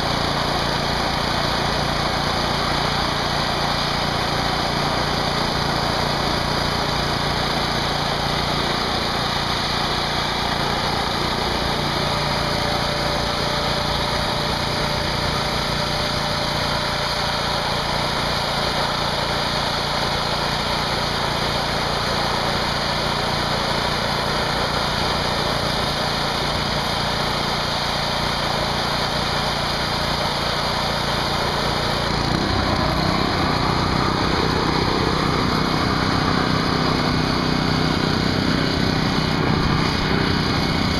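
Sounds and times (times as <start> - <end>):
high-pressure water jet hissing: 0.0 - 40.9
small engine running: 0.0 - 40.9.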